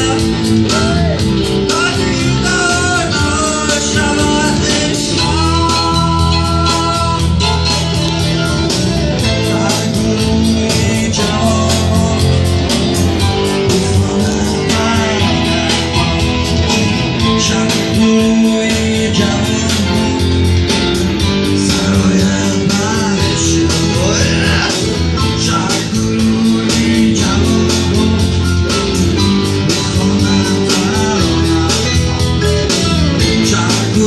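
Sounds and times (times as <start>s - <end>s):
live guitar music: 0.0s - 34.0s
person singing: 0.0s - 34.0s.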